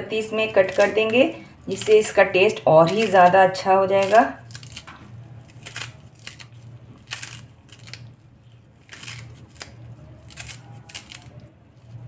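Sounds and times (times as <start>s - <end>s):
steady low hum: 0.0s - 12.0s
knife cutting herbs: 0.1s - 8.1s, 8.8s - 12.0s.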